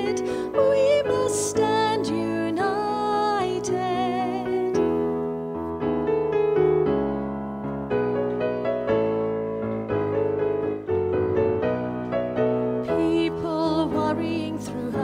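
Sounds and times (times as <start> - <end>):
piano playing chords and melody: 0.0 - 15.0.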